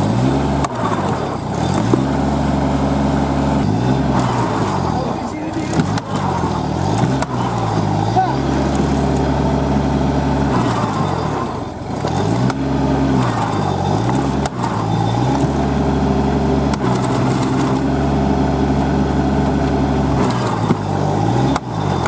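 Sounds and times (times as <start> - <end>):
tractor diesel engine labouring: 0.0 - 22.0.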